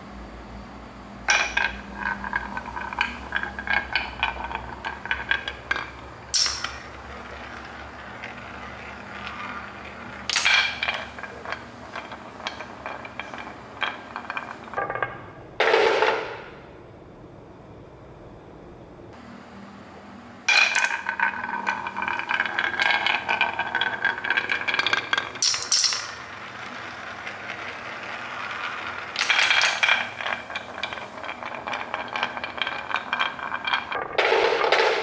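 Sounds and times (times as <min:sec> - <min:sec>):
marbles clinking on a track: 0:01.3 - 0:15.0, 0:20.5 - 0:35.0.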